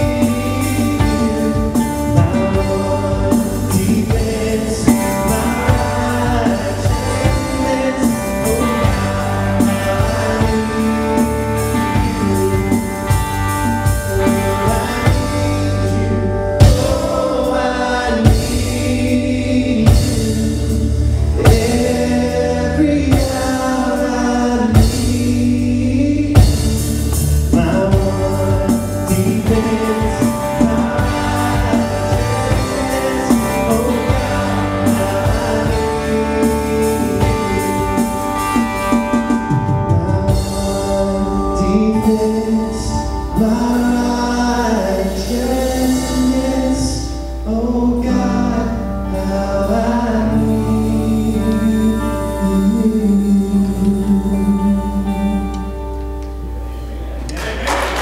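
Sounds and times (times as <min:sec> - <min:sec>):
drum kit: 0:00.0 - 0:47.5, 0:57.3 - 0:58.0
man singing: 0:00.0 - 0:55.8
acoustic guitars strumming: 0:00.0 - 0:58.0
bass guitar: 0:00.0 - 0:58.0
electric guitar: 0:00.0 - 0:58.0.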